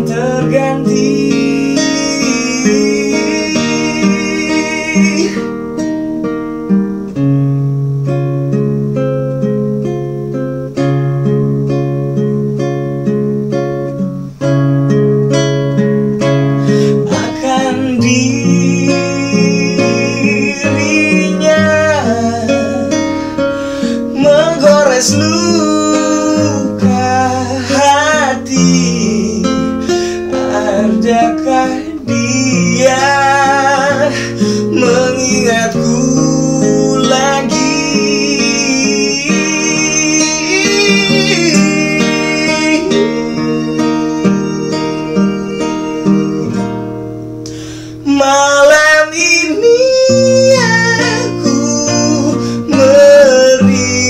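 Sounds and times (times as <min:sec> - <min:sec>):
person singing: 0:00.0 - 0:05.9, 0:16.5 - 0:54.0
acoustic guitar strumming: 0:00.0 - 0:54.0.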